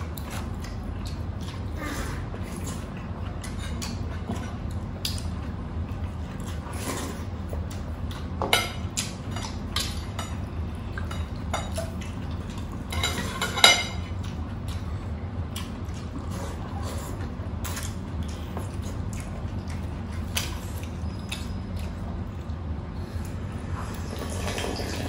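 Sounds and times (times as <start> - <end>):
chewing and mouth sounds: 0.0 - 24.9.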